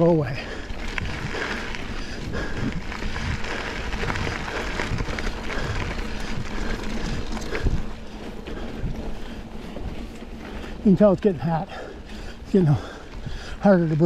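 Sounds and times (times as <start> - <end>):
bike tyre and wind noise: 0.0 - 14.0.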